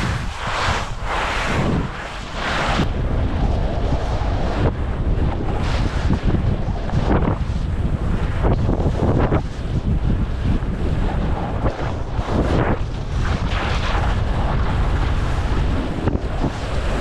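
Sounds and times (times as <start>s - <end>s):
low rumble: 0.0s - 17.0s
wind buffeting microphone: 0.0s - 17.0s.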